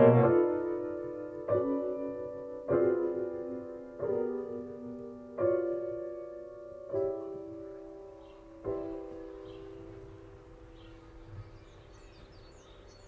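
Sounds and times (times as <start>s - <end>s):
grand piano playing slow chords: 0.0s - 13.0s.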